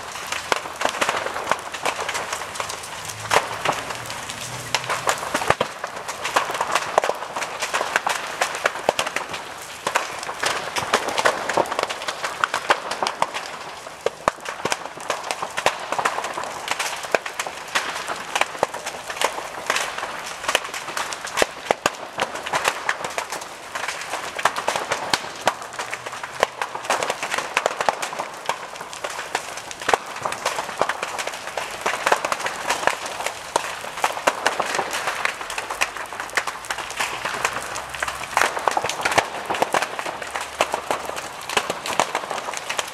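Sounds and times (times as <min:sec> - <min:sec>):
fire crackling and popping: 0:00.0 - 0:42.9
rushing fire noise: 0:00.0 - 0:42.9.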